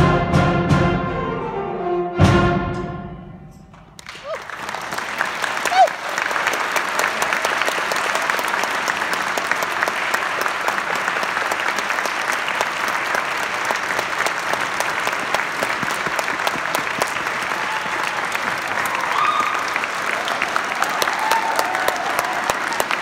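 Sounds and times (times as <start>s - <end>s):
audience applauding: 4.0s - 23.0s.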